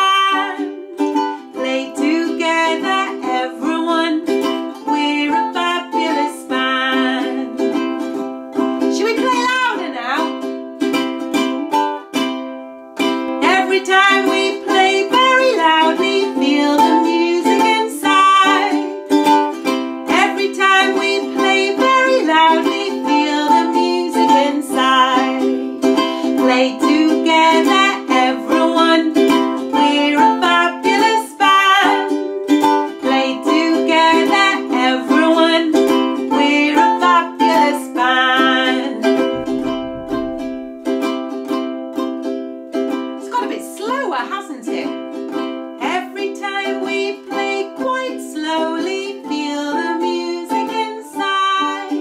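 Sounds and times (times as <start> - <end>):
woman singing: 0.0 - 7.8, 8.8 - 10.5, 13.4 - 19.4, 20.0 - 40.3, 43.2 - 45.0, 45.8 - 52.0
ukulele strumming: 0.0 - 52.0.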